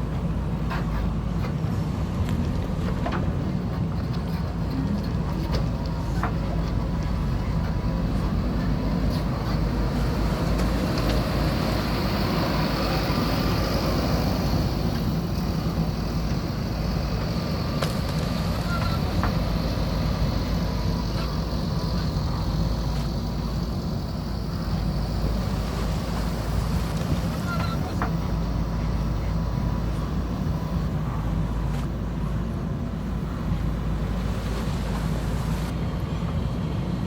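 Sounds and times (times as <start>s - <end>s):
diesel engine rumbling: 0.0s - 37.0s.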